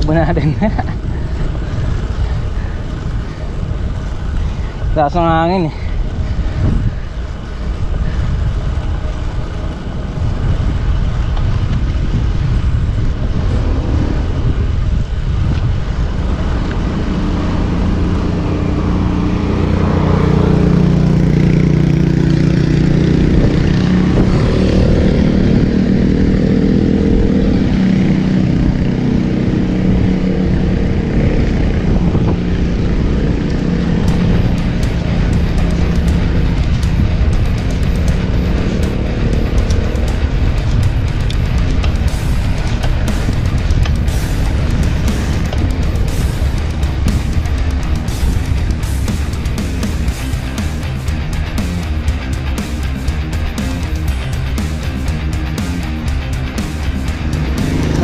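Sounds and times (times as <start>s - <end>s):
steady low drone: 0.0s - 58.0s
wind buffeting microphone: 0.0s - 58.0s.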